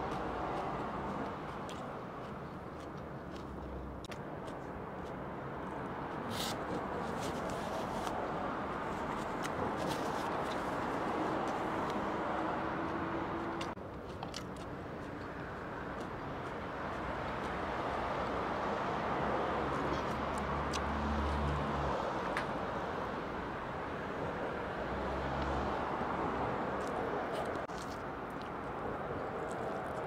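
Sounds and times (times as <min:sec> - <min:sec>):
distant road traffic hum: 0:00.0 - 0:30.0.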